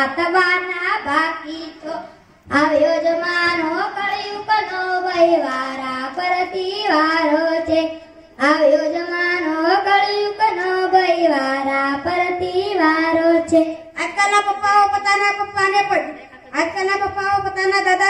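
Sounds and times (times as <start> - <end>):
child singing over loudspeaker: 0.0 - 18.0.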